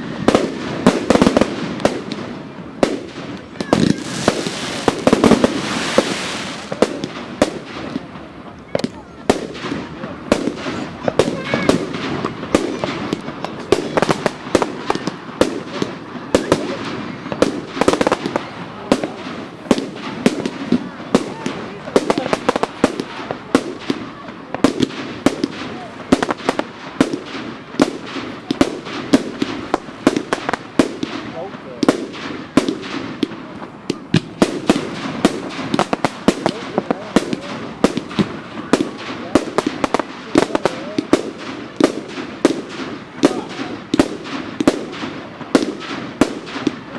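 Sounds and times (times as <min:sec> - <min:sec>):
fireworks bangs and cracks: 0:00.0 - 0:46.9
fireworks crackling: 0:00.0 - 0:46.9.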